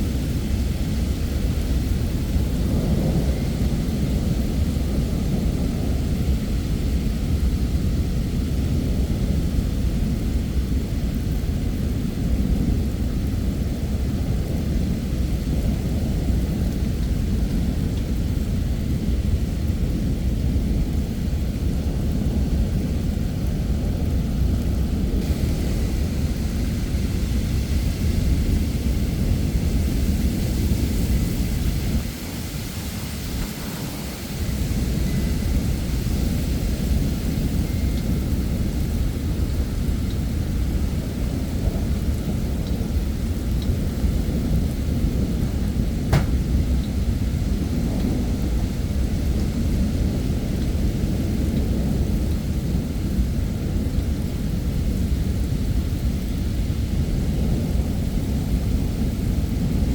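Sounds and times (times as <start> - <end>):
heavy rain: 0.0 - 59.9
low rumble of thunder: 0.0 - 59.9.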